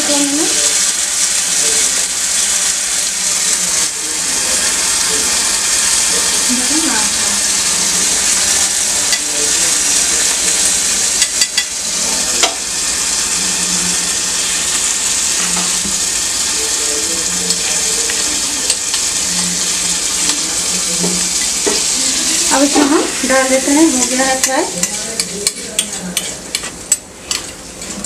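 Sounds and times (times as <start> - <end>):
garlic sizzling in hot oil: 0.0 - 28.0.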